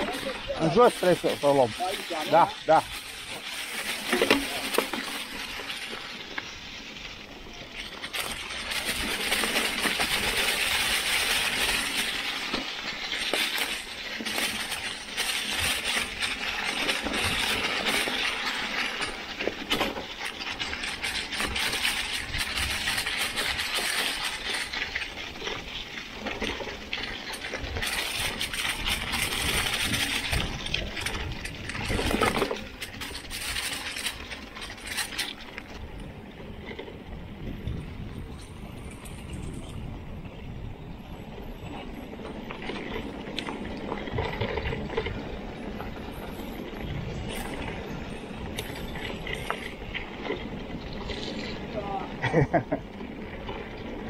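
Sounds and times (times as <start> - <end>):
bike clicks and rattles: 0.0 - 54.0
bike tyres crunching dry leaves: 0.0 - 54.0.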